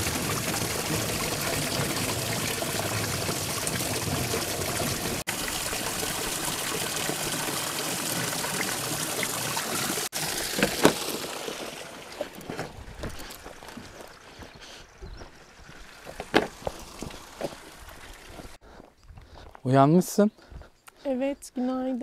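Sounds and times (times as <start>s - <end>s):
water noise: 0.0s - 18.6s.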